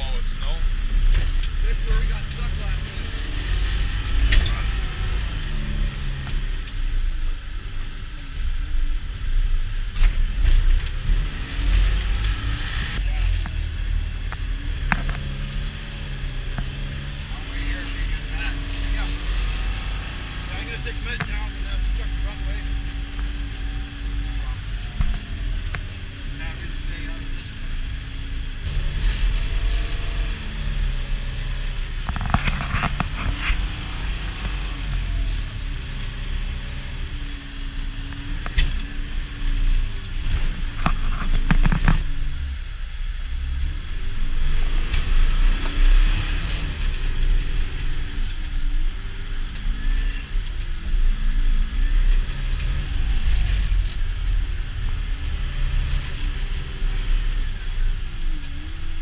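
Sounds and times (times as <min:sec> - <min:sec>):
vehicle engine driving: 0:00.0 - 0:59.0.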